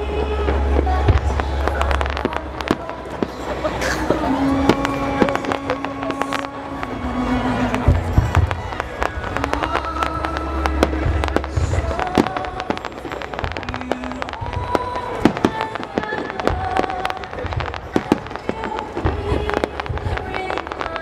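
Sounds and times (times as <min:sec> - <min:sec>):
fireworks bangs and crackles: 0:00.0 - 0:21.0
music with long held notes: 0:00.0 - 0:21.0.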